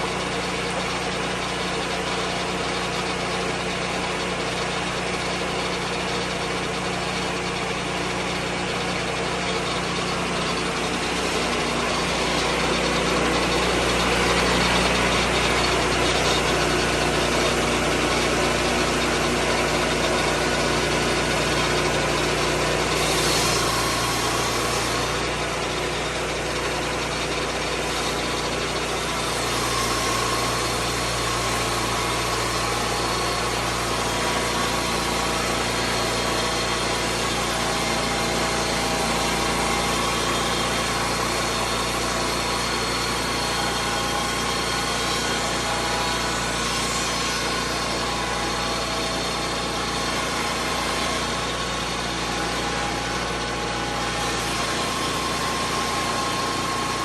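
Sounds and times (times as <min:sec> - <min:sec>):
sawmill engine running: 0:00.0 - 0:57.0
whir of sawmill blade: 0:00.0 - 0:57.0.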